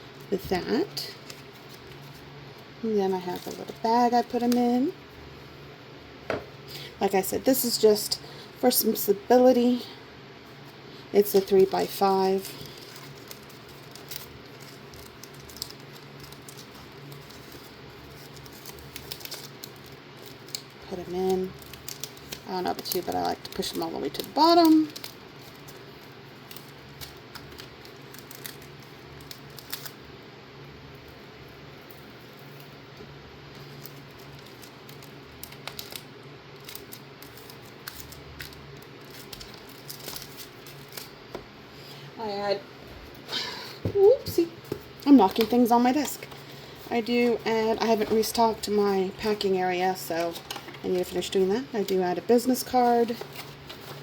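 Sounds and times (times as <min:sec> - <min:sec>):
packing materials rustling: 0:00.8 - 0:02.6, 0:10.6 - 0:30.0, 0:31.1 - 0:42.0, 0:42.9 - 0:54.0.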